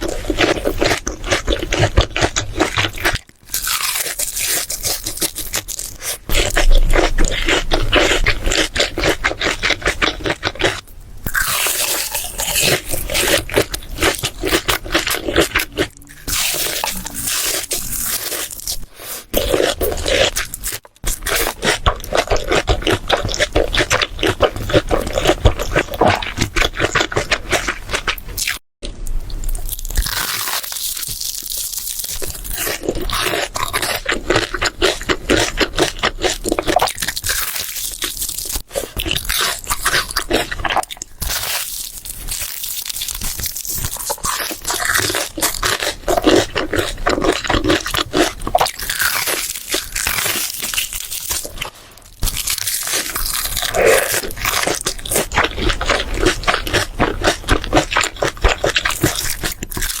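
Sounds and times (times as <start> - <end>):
crunching and chewing: 0.0 - 60.0.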